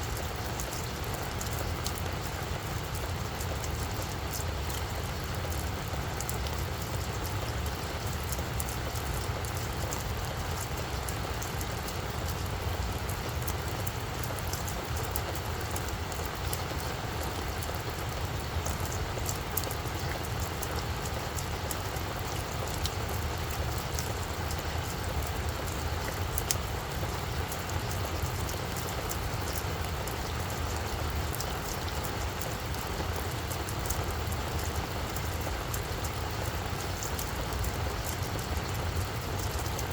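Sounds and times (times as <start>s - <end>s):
rain hiss: 0.0s - 39.9s
raindrop ticks: 0.0s - 39.9s.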